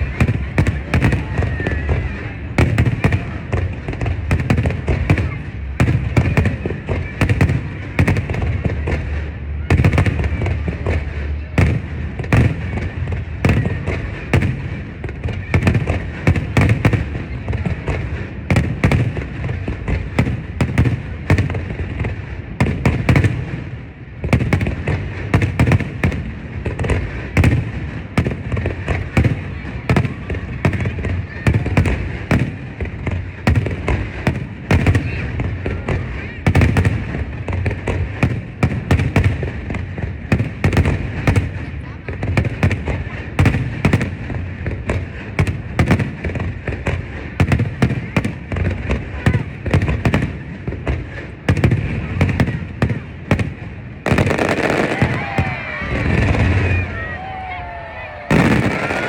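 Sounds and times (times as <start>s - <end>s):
fireworks booming: 0.0s - 59.0s
fireworks crackling: 0.0s - 59.0s.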